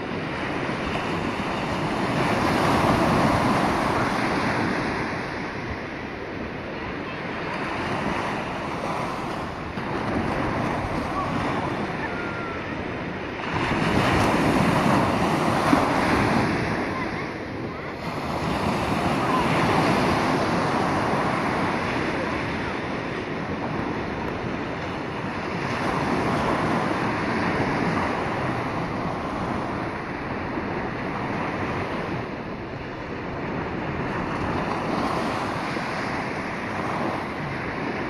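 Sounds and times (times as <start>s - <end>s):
ocean surf breaking: 0.0s - 38.0s.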